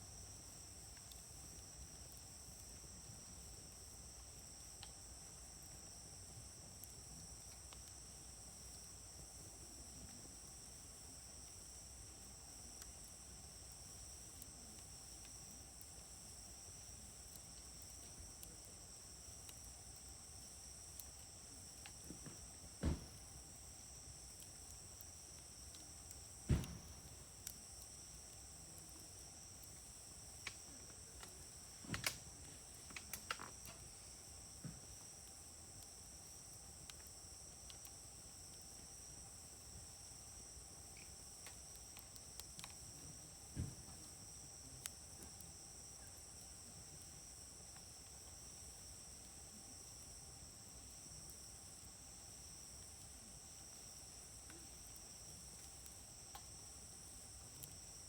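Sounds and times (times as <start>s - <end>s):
insects chirring: 0.0s - 58.0s
wood fire crackling: 0.0s - 58.0s
burning wood popping: 0.1s - 58.0s.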